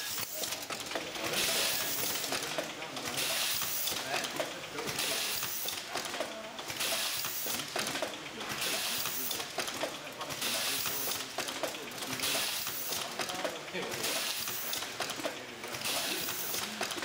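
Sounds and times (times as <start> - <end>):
label printer hissing and clicking: 0.0 - 17.0.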